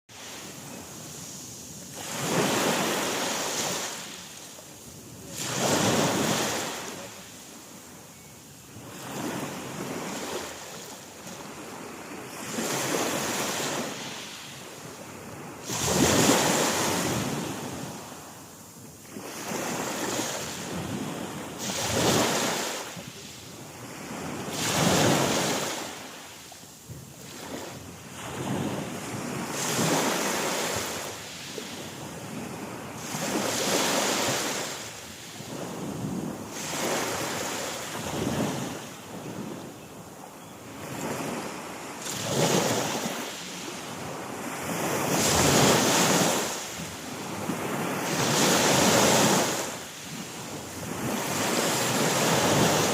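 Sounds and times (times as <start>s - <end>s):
waves breaking on shore: 0.1s - 52.9s.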